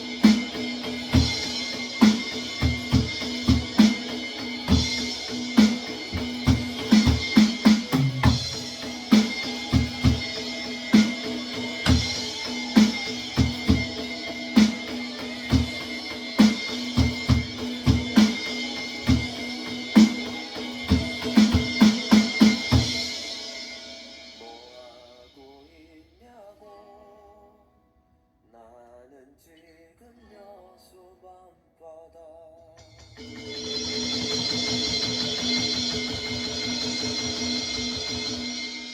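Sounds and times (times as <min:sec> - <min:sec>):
electronic drum kit: 0:00.0 - 0:25.4, 0:32.8 - 0:38.9
backing track music: 0:00.0 - 0:25.7, 0:32.8 - 0:38.9.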